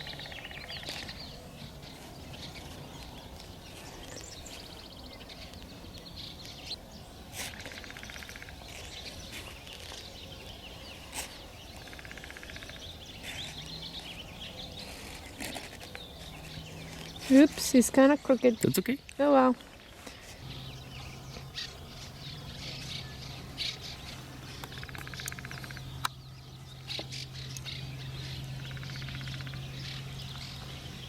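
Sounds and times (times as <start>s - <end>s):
birds singing and chirping: 0.0s - 31.0s.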